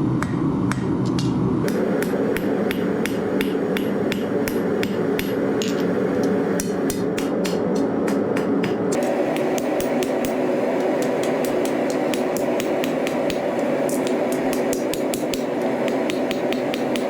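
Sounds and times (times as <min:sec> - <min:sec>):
steady hum: 0:00.0 - 0:17.0
hammer striking steel: 0:00.2 - 0:17.0.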